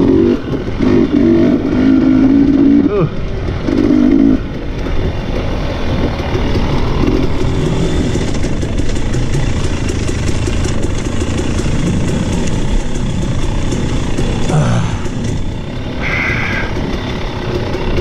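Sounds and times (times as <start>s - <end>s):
dirt bike engine: 0.0s - 18.0s.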